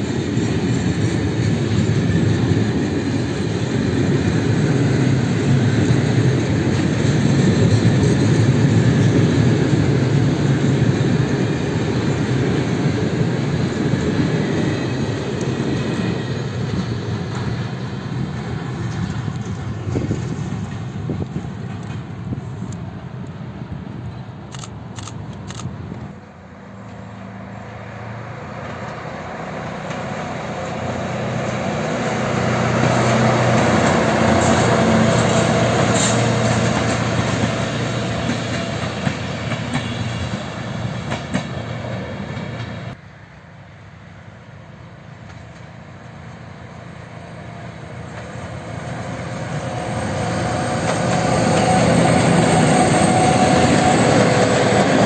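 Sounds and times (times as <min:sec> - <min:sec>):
freight train wheels clattering: 0:00.0 - 0:22.8, 0:28.5 - 0:43.0, 0:47.9 - 0:55.0
diesel locomotive engine: 0:00.0 - 0:55.0.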